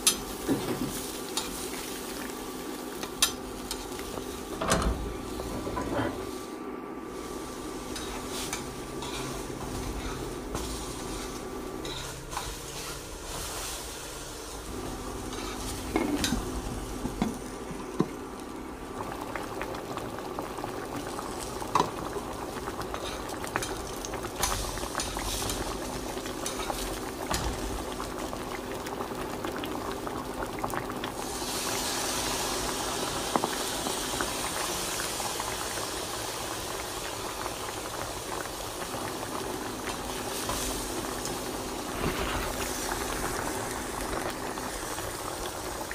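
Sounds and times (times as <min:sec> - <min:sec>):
liquid boiling in a pot: 0:00.0 - 0:45.9.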